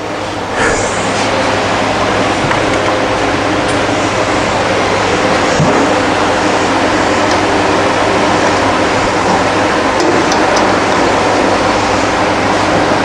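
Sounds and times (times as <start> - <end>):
rushing noise with low hum: 0.0 - 13.0.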